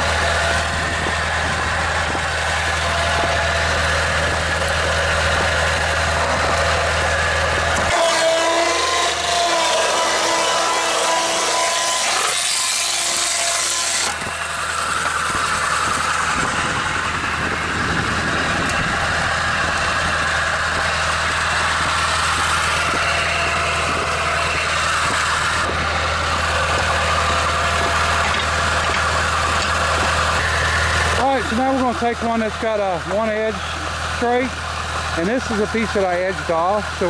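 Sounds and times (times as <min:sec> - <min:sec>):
engine humming: 0:00.0 - 0:37.0
saw blades ripping through wood: 0:00.0 - 0:37.0.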